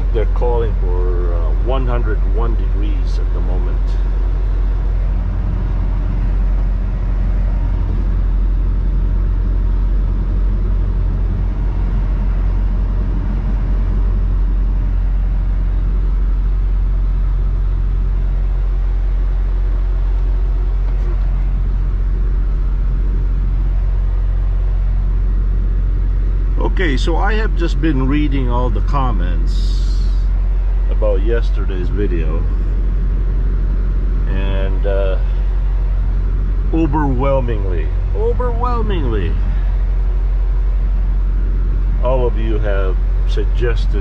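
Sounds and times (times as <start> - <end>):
road noise: 0.0 - 44.0
truck engine drone: 0.0 - 44.0.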